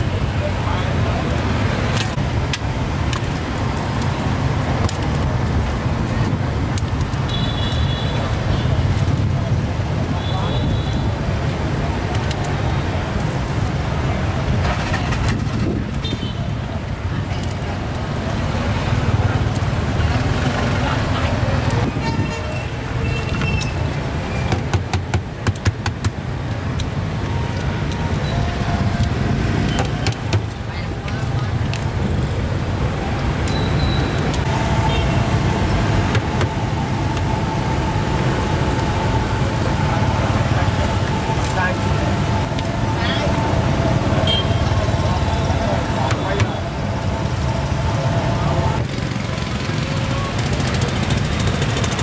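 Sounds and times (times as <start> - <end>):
low traffic rumble: 0.0 - 52.0.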